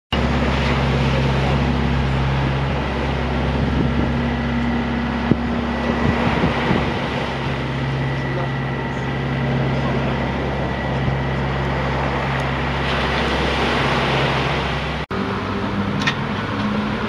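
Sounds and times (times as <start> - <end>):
wind buffeting microphone: 0.1 - 15.0
tractor diesel engine running: 0.1 - 17.0.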